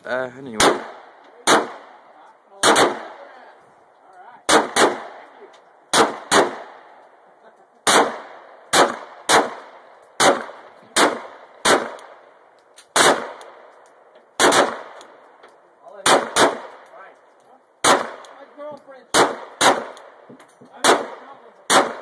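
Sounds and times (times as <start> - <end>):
pistol shots with echo: 0.5 - 3.4, 4.4 - 7.0, 7.8 - 15.2, 16.0 - 17.0, 17.8 - 22.0.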